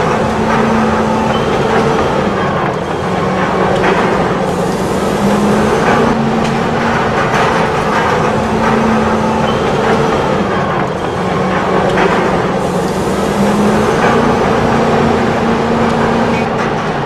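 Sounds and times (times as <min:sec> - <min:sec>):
heavy machinery engine drone: 0:00.0 - 0:17.0.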